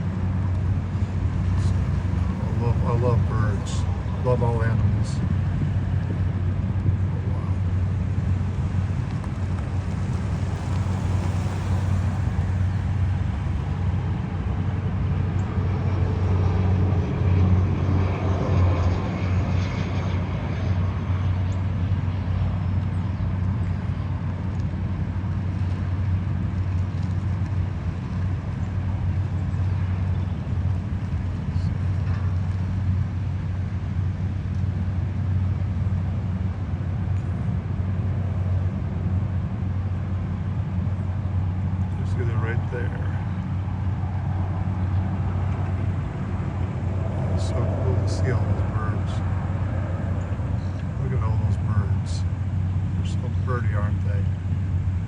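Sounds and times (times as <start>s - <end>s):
vehicle engine hum: 0.0s - 55.0s.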